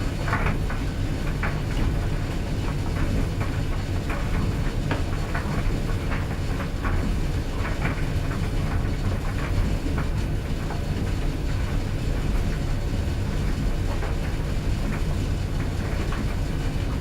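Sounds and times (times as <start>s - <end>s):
clothes dryer drum rumbling: 0.0s - 17.0s.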